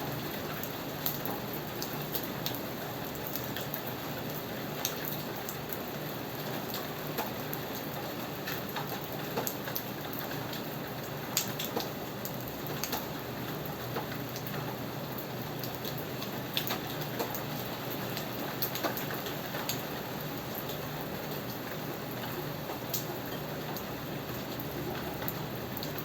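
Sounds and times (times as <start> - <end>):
steady rain hiss: 0.0 - 26.0
raindrops ticking on a surface: 0.1 - 26.0.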